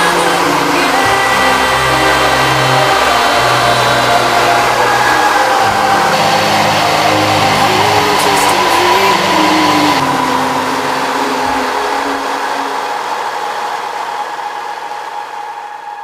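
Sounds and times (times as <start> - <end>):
radial aircraft engine running: 0.0 - 14.2
airflow noise: 0.0 - 16.0.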